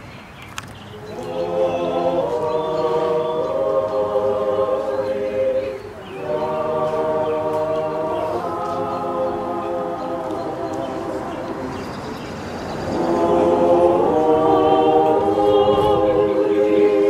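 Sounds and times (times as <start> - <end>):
group chanting in long notes: 1.0 - 17.0.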